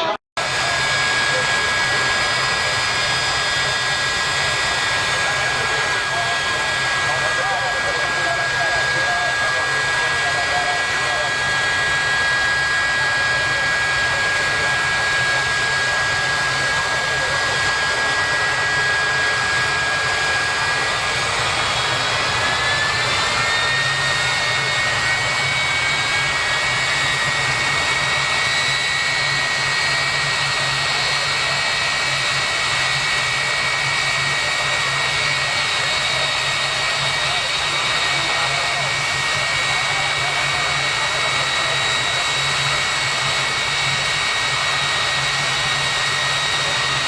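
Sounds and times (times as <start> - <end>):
turbine engine whine: 0.0 - 47.0.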